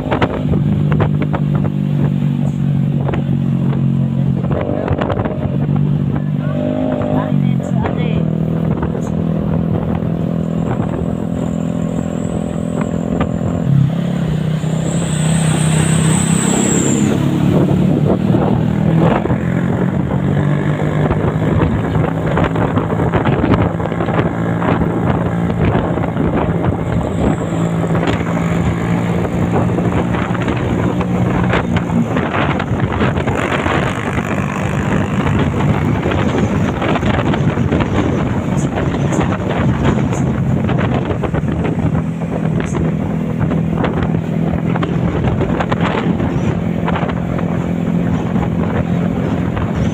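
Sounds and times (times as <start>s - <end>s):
diesel truck engine under load: 0.0s - 49.9s.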